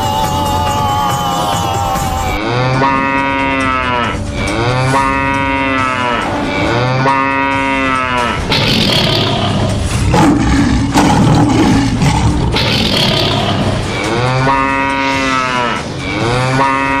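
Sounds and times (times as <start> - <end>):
cow bellowing: 2.4 - 17.0
loud rushing noise: 2.6 - 17.0.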